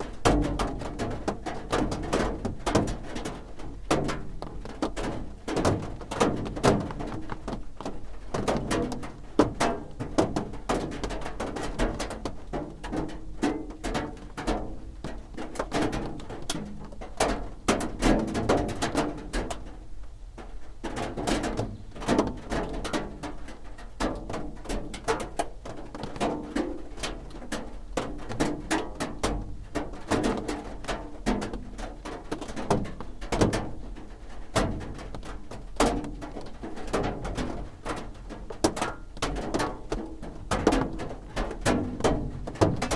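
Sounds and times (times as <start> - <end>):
raindrops drumming on a roof: 0.0 - 42.9.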